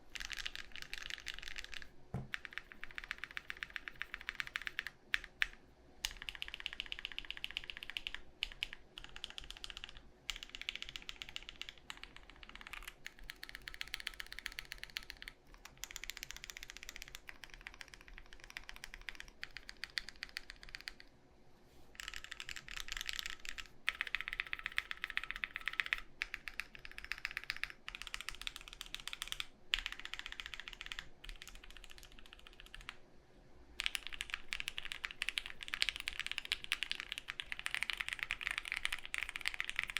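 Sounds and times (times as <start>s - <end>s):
faint fan hum: 0.0s - 39.9s
mechanical keyboard typing: 0.1s - 21.1s, 22.0s - 33.0s, 33.8s - 39.9s.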